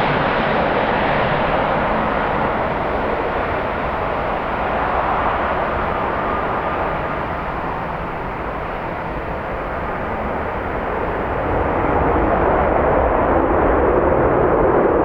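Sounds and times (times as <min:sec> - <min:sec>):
jet engine noise: 0:00.0 - 0:15.0
wind buffeting microphone: 0:00.0 - 0:15.0.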